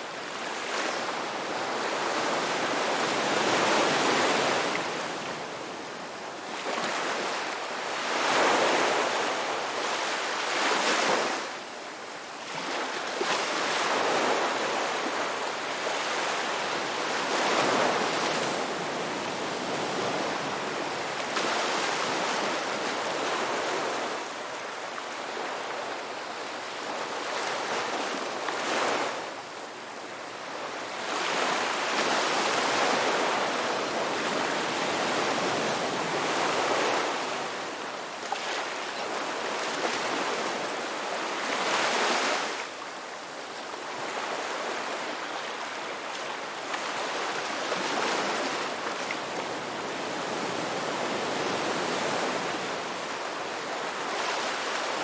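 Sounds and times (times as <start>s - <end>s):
sea waves breaking on shore: 6.5s - 11.6s, 12.5s - 29.4s, 30.2s - 55.0s.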